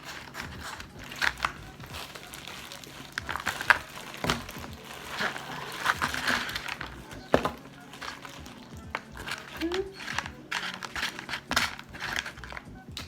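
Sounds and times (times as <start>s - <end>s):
crab shell cracking: 0.0s - 13.0s
packaging crinkling: 0.0s - 13.0s.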